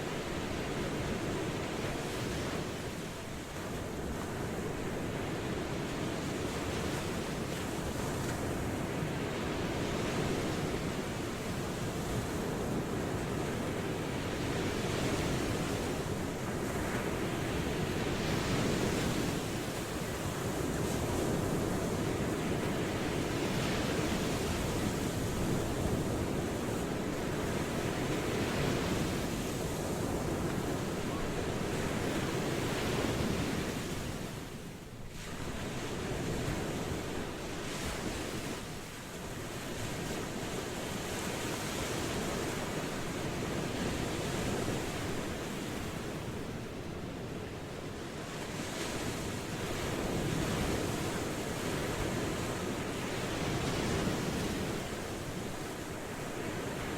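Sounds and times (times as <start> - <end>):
ocean waves washing onto shore: 0.0 - 56.9.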